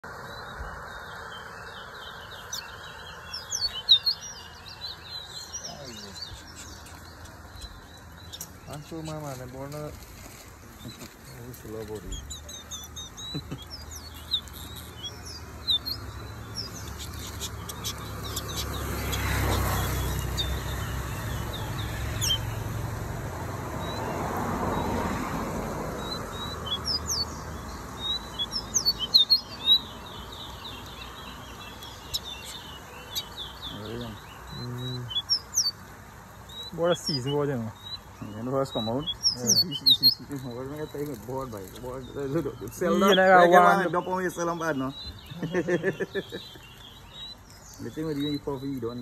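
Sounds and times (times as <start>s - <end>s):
songbirds chirping and trilling: 0.0s - 49.0s.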